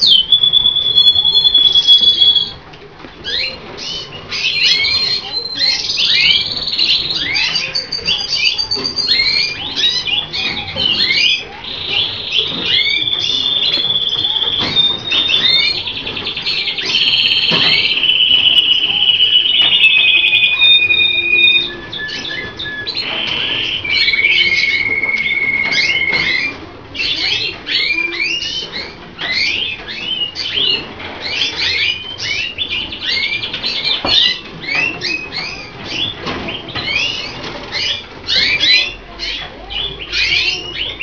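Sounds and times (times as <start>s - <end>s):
canaries singing: 0.0s - 41.0s.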